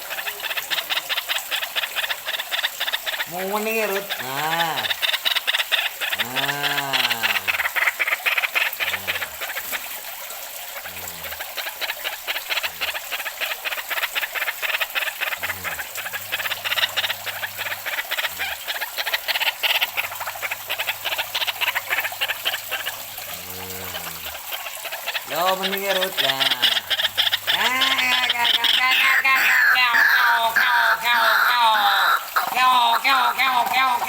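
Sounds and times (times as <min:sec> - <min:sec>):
bird harsh croaking calls: 0:00.0 - 0:34.0.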